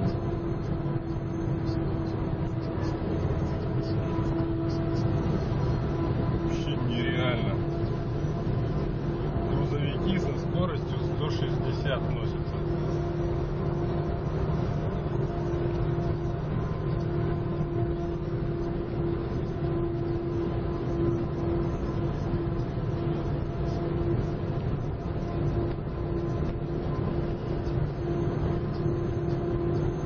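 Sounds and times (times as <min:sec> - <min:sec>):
car engine hum: 0:00.0 - 0:30.0.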